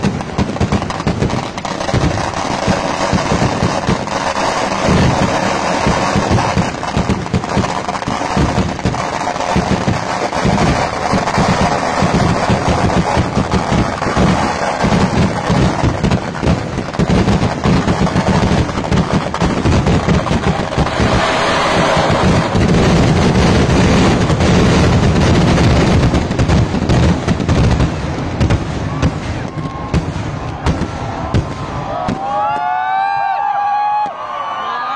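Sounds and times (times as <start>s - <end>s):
fireworks bangs: 0.0s - 34.6s.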